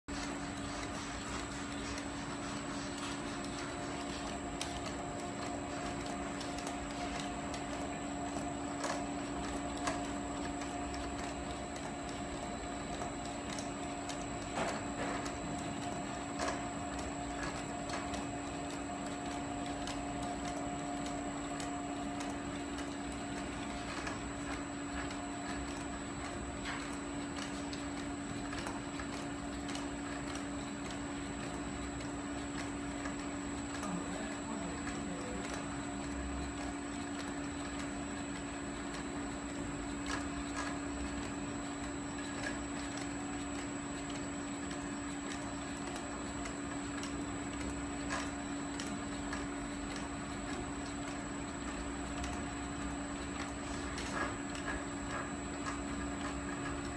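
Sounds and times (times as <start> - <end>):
machine hum with high whine: 0.1 - 56.9.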